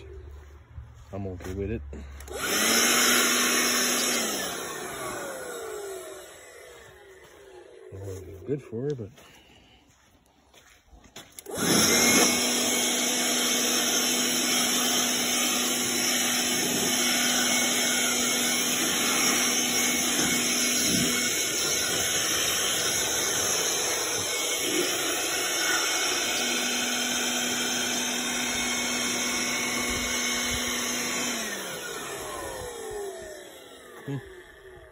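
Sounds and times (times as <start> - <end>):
air blower running: 0.0 - 9.7, 11.2 - 34.9.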